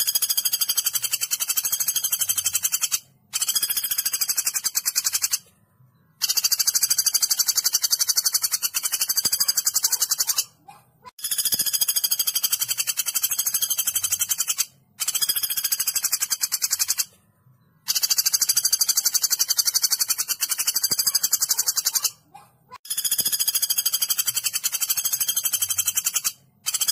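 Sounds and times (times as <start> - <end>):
woodpecker trilling: 0.0 - 5.4, 6.2 - 17.1, 17.8 - 26.9.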